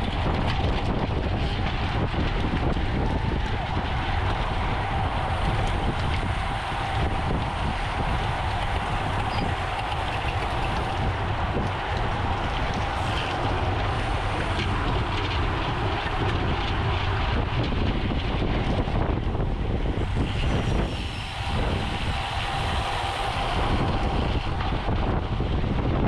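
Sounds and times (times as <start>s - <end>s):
road noise: 0.0s - 26.0s
wind rushing on microphone: 0.0s - 26.0s.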